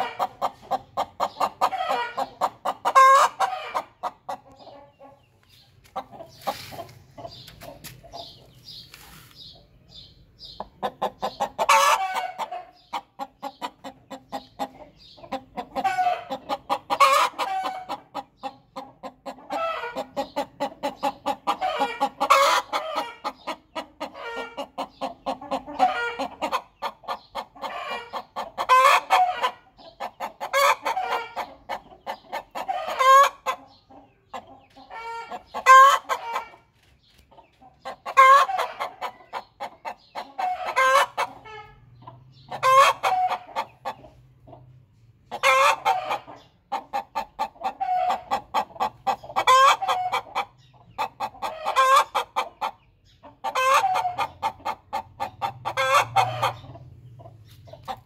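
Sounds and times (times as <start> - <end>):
hen cackling: 0.0 - 5.2, 10.6 - 36.7, 37.8 - 44.1, 45.3 - 58.0.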